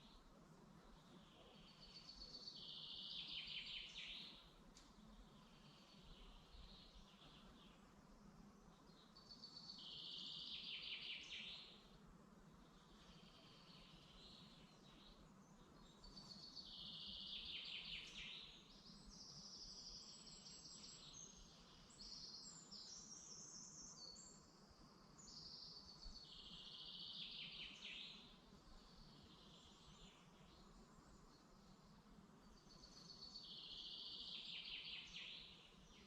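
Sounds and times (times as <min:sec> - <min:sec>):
birds singing: 0:00.8 - 0:04.5, 0:08.6 - 0:11.9, 0:12.7 - 0:24.5, 0:25.2 - 0:36.0.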